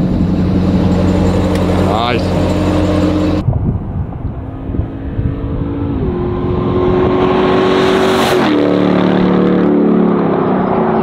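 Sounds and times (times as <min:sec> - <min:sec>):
engine accelerating hard: 0:00.0 - 0:03.4, 0:04.1 - 0:11.0.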